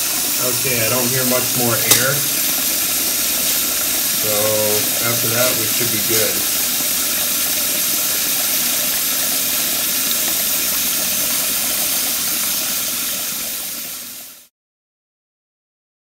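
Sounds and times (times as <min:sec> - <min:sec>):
air sputtering in water line: 0:00.0 - 0:14.2
faucet running into sink: 0:00.0 - 0:14.5.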